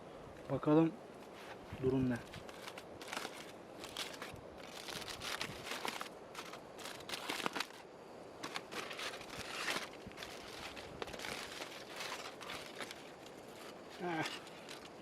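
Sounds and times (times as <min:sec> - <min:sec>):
aluminium foil crinkling: 0:01.4 - 0:15.0.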